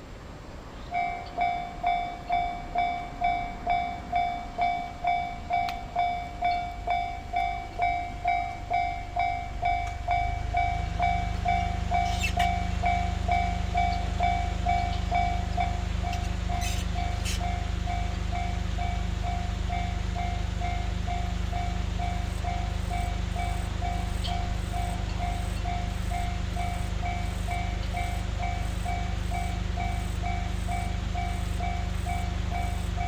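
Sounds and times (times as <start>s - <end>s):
rumble of approaching train: 0.0s - 33.0s
level crossing warning bell: 0.9s - 33.0s.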